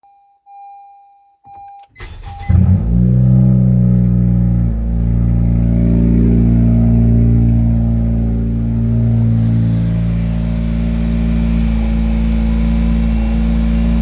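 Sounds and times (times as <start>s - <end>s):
car engine starting and idling: 2.0s - 14.0s.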